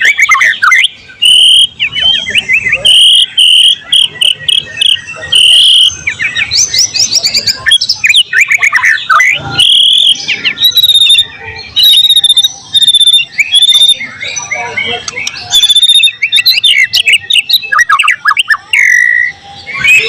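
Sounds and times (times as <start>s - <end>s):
bird singing trills: 0.0s - 20.0s.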